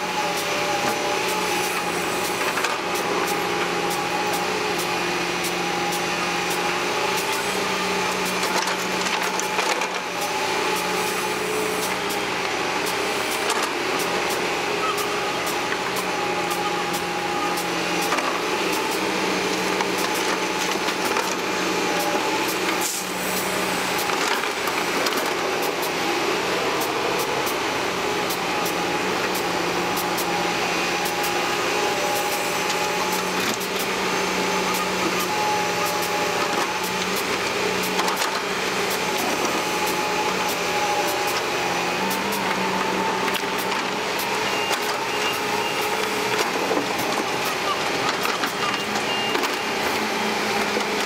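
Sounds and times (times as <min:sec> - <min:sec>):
excavator engine and hydraulics: 0:00.0 - 0:51.0.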